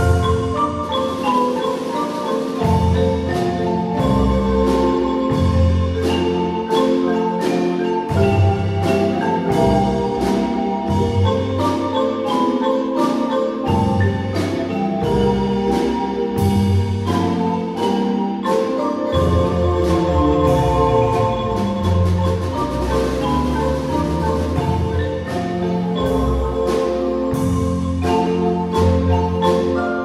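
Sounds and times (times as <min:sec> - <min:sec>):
marimba music: 0:00.0 - 0:30.0.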